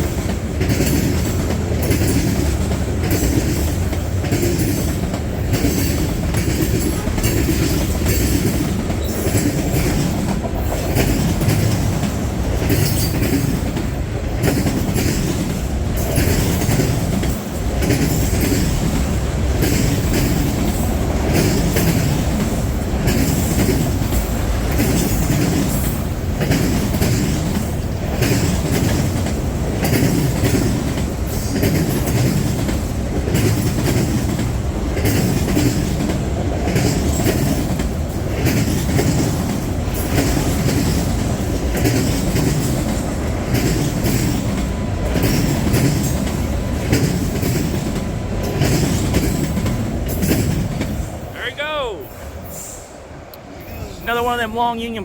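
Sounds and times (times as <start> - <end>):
wheels clacking over track: 0.0 - 51.4
freight train rumbling past: 0.0 - 55.0.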